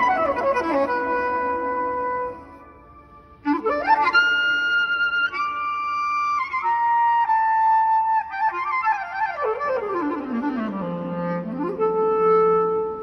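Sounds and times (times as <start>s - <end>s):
solo clarinet in reverberant church: 0.0s - 13.0s.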